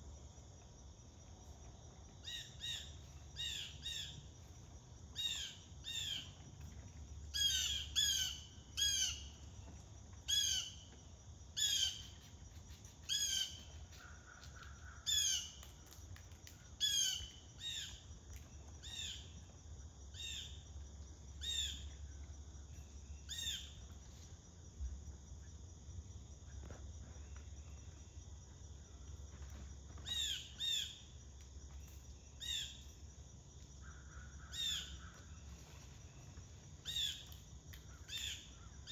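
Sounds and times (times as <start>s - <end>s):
high insect trill: 0.0s - 38.9s.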